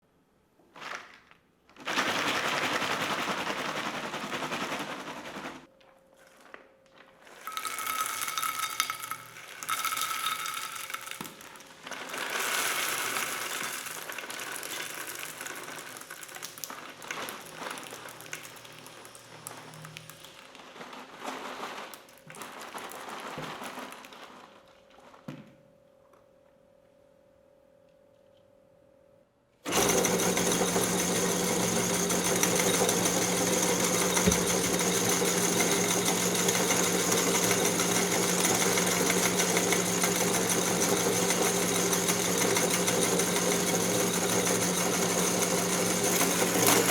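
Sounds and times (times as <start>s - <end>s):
grinder crunching popcorn: 0.8s - 5.7s, 6.4s - 25.0s, 29.7s - 46.9s.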